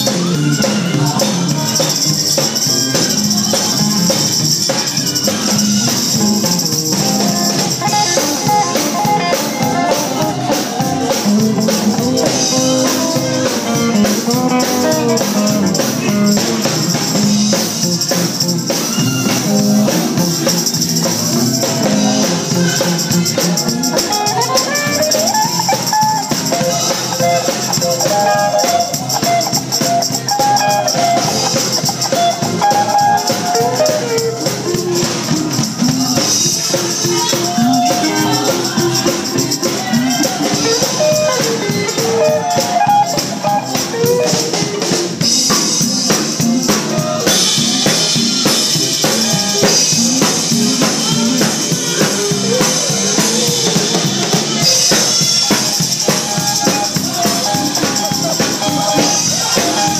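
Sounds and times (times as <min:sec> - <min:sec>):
drum kit: 0:00.0 - 0:59.9
electric guitar melody: 0:00.0 - 0:59.9
jingling high percussion: 0:00.0 - 0:59.9.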